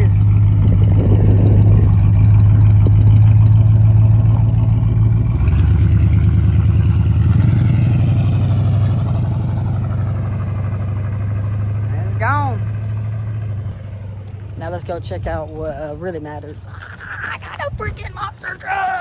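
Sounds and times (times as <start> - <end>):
pickup truck engine pulling away: 0.0 - 17.8.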